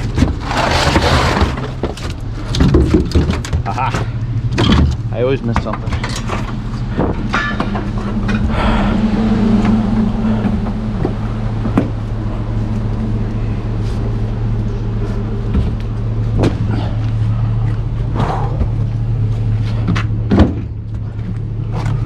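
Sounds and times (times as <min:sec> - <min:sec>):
pickup engine running: 0:00.0 - 0:22.0.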